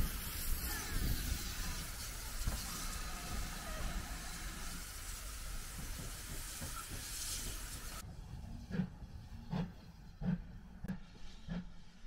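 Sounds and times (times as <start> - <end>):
steam locomotive hissing and rumbling: 0.0 - 12.0.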